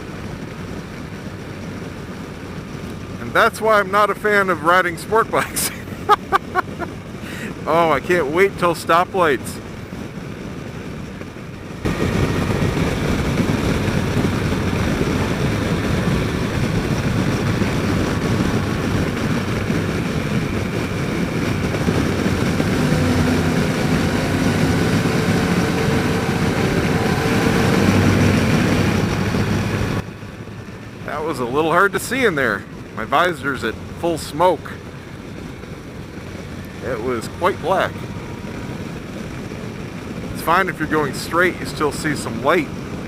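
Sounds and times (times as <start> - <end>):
motorcycle engine hum: 0.0 - 43.0
road noise: 0.0 - 43.0.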